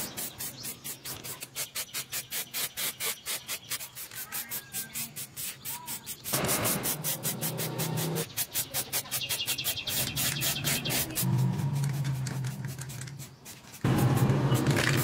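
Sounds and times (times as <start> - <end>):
aerosol spray can hissing: 0.1 - 15.0.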